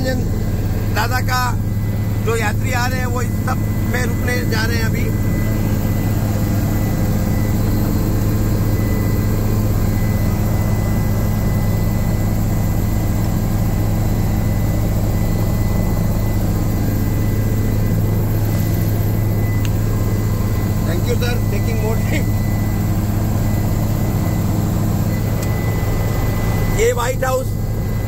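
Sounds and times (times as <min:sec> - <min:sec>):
helicopter rotor and engine drone: 0:00.0 - 0:28.0
thin steady whine: 0:00.0 - 0:28.0.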